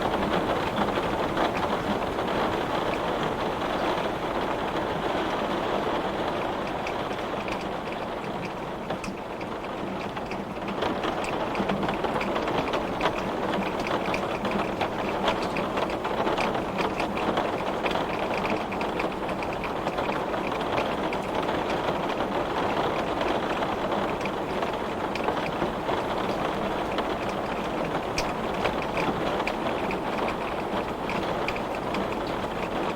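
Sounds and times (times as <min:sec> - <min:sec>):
heavy rain on window glass: 0:00.0 - 0:32.9.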